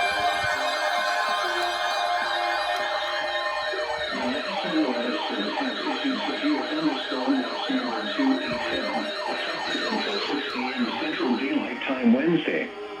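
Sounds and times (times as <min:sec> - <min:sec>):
siren-style electronic alert: 0:00.0 - 0:13.0.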